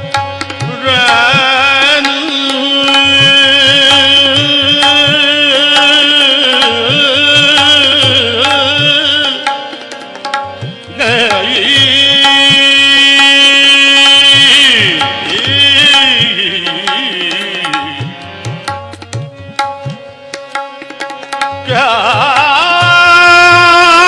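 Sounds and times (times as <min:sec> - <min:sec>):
person singing: 0:00.0 - 0:09.8, 0:10.9 - 0:18.5, 0:21.6 - 0:24.0
harmonium: 0:00.0 - 0:24.0
tabla rhythm: 0:00.0 - 0:24.0.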